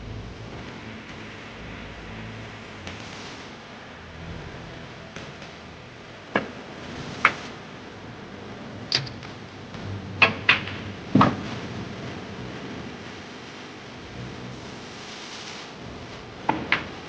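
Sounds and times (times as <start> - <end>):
low steady hum: 0.0 - 15.1.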